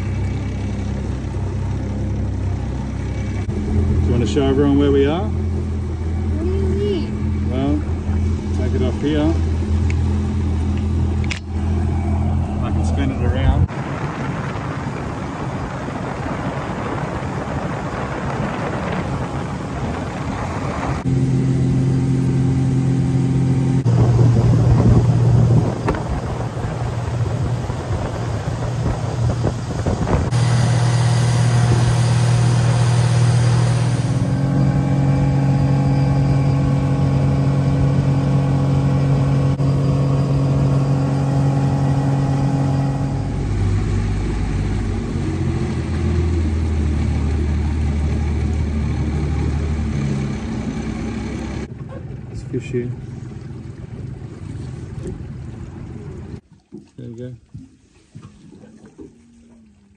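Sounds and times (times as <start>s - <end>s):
outboard motor running: 0.0s - 59.9s
wind and water rushing: 0.0s - 59.9s.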